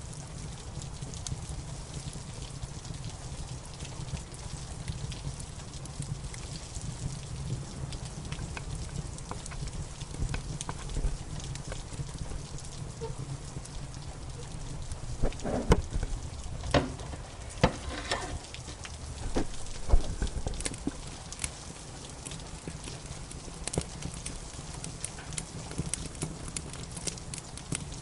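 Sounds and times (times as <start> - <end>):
fire crackling and popping: 0.0 - 28.0
steady rain: 0.0 - 28.0.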